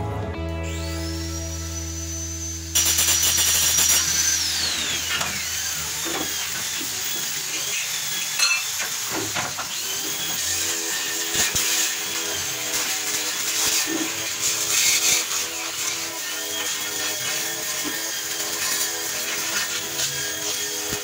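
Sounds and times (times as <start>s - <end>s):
angle grinder whining: 0.5s - 21.0s.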